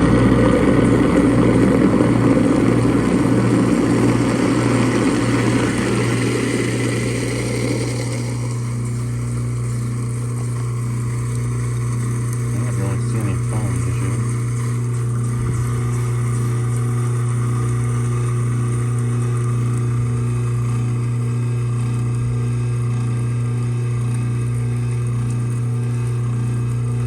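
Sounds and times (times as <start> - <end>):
garbage disposal motor hum: 0.0 - 27.0.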